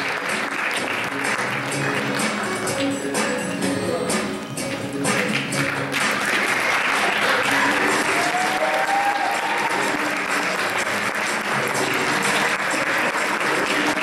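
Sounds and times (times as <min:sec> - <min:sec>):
audience applauding: 0:00.0 - 0:02.6, 0:05.1 - 0:14.0
closing music: 0:00.0 - 0:14.0.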